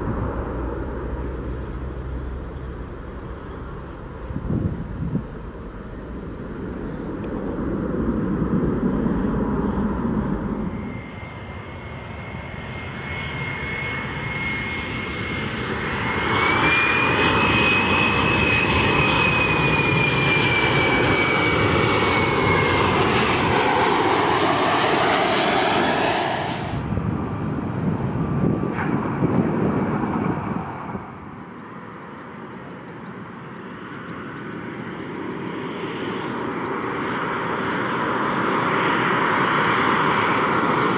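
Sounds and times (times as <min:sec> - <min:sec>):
aircraft engine high whine: 0:00.0 - 0:40.9
aircraft engine rumble: 0:00.0 - 0:40.9.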